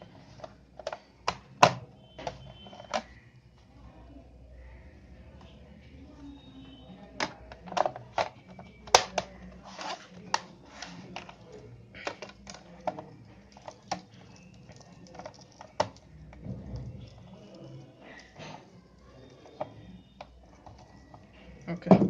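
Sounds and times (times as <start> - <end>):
laptop parts clicking and tapping: 0.4 - 3.2, 7.1 - 22.0.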